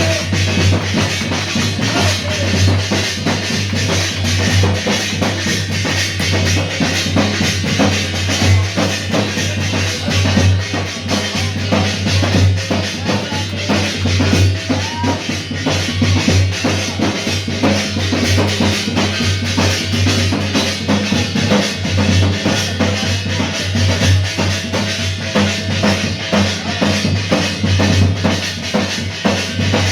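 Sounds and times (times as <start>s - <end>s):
loud music with heavy drum beat: 0.0s - 29.9s.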